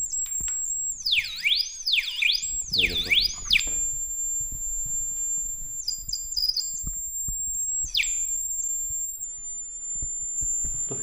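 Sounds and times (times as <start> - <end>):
short electronic chirps: 0.0 - 9.2
high-pitched electronic whine: 0.0 - 11.0.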